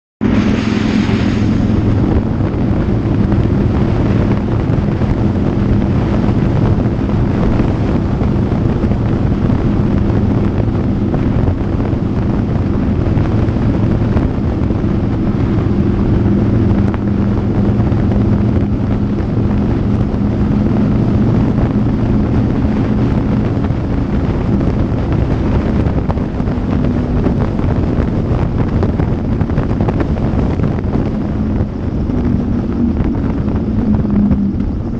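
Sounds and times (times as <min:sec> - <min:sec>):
motorcycle engine cruising: 0:00.2 - 0:34.9
wind rushing over microphone: 0:00.2 - 0:34.9.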